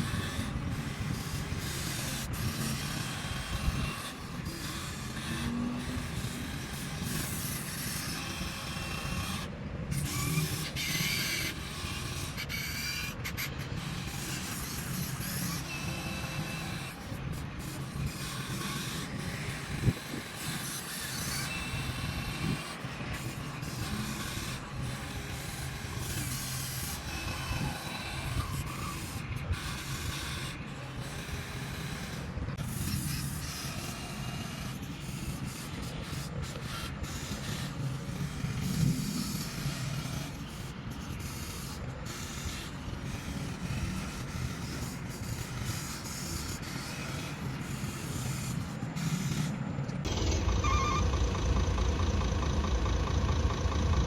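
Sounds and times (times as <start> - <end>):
small electric motors whirring: 0.0 - 54.0.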